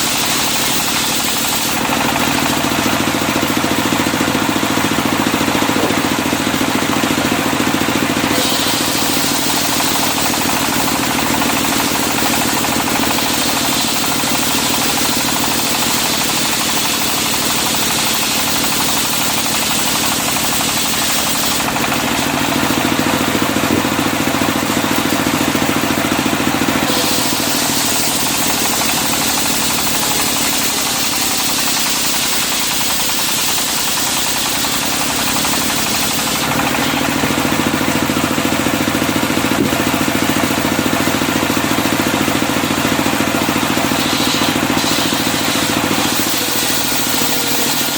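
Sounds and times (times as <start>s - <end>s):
saw blade cutting wood: 0.0s - 47.9s
sawmill engine droning: 0.0s - 47.9s.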